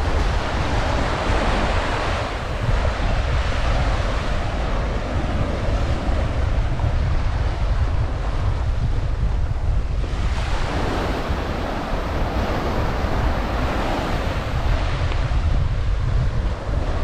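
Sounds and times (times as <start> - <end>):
surf on beach: 0.0 - 17.0
wind buffeting microphone: 0.0 - 17.0.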